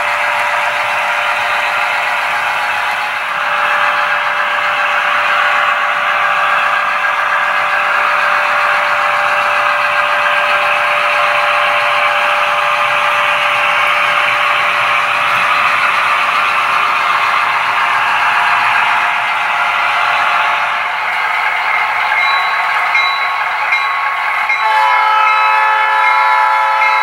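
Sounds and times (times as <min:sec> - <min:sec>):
model locomotives running with whine: 0:00.0 - 0:27.0.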